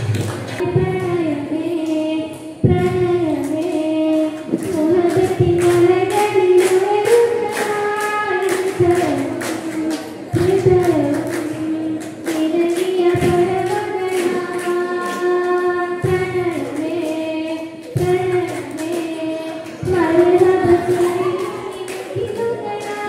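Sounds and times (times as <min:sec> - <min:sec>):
girl singing: 0:00.6 - 0:23.0.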